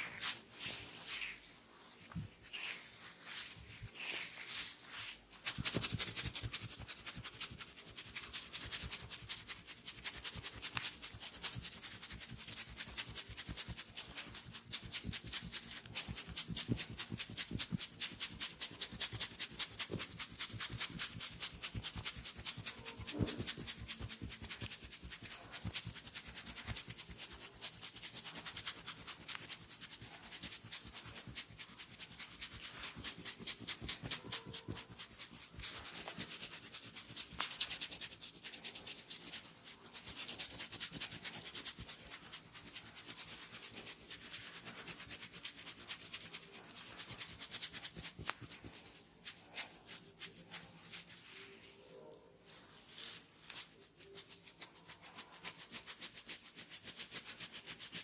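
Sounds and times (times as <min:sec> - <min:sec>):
hands rubbing and striking hair: 0:00.0 - 0:58.0.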